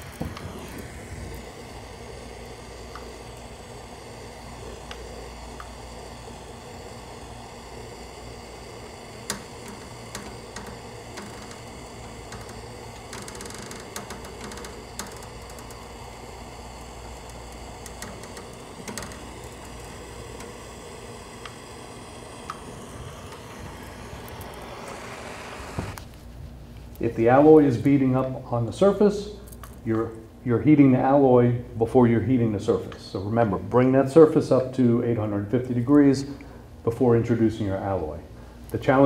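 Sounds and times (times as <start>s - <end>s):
torch burning with steady hiss: 0.0s - 39.0s.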